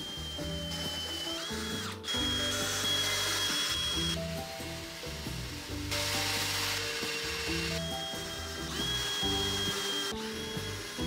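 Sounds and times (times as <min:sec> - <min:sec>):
cordless drill driving screws: 0:00.0 - 0:04.2, 0:04.9 - 0:11.0
shop vacuum hissing: 0:00.0 - 0:11.0.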